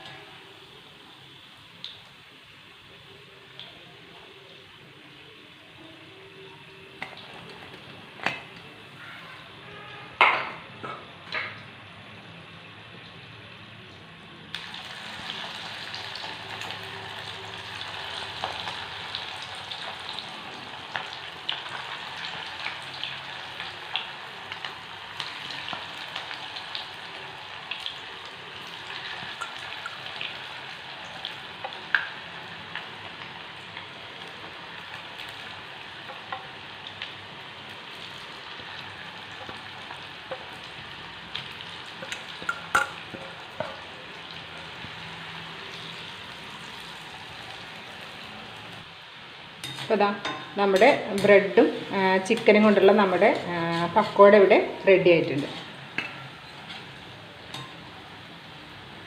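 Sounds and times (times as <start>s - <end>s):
deep-frying sizzle with pops: 0.0s - 59.0s.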